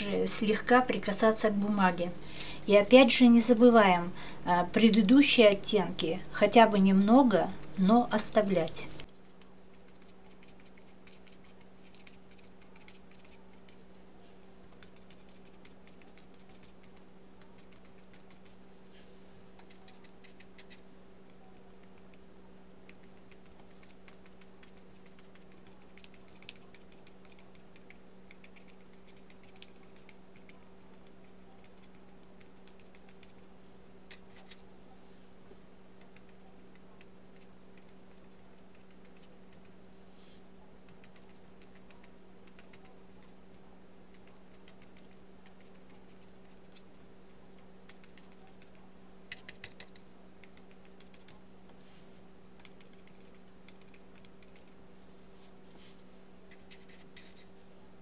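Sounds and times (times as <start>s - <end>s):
low electrical hum: 0.0s - 58.0s
brush tapping and scratching paper: 9.0s - 57.9s.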